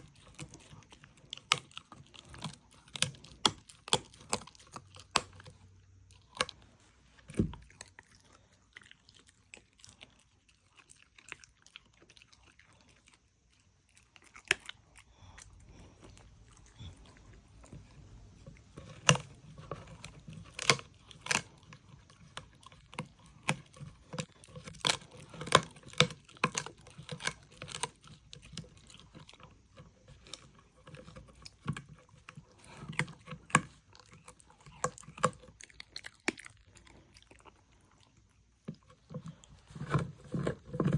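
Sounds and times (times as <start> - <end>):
dog crunching food: 0.0 - 40.9.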